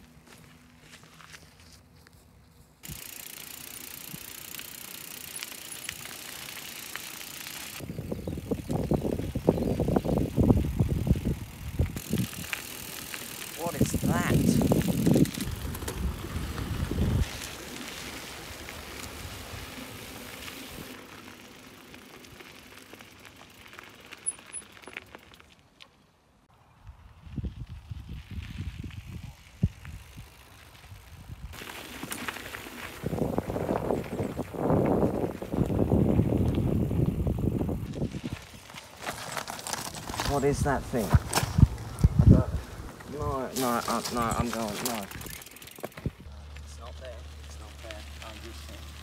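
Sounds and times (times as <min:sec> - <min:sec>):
bicycle rattling on rough ground: 0:00.0 - 0:26.2, 0:26.8 - 0:49.0
bicycle tyre hiss on grass: 0:00.3 - 0:24.3, 0:27.6 - 0:49.0.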